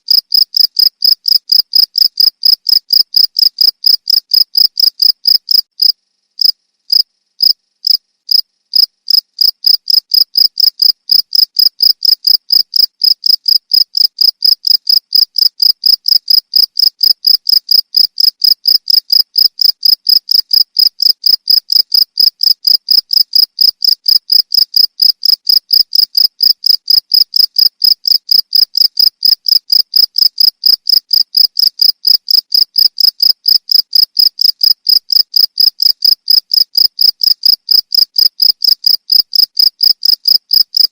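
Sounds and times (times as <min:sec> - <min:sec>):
cricket chirping: 0:00.1 - 0:40.9.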